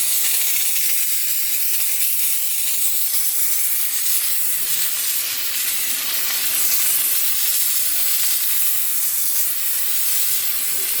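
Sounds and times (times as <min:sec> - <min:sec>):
steam cleaner hissing: 0:00.0 - 0:11.0.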